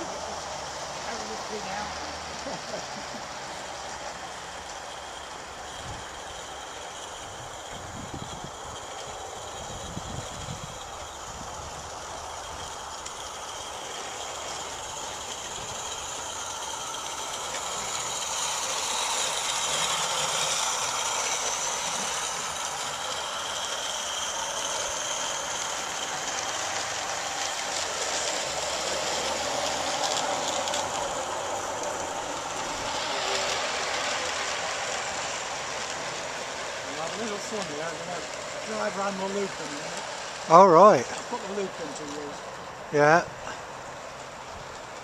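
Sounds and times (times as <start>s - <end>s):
model steam locomotive hissing: 0.0s - 45.0s.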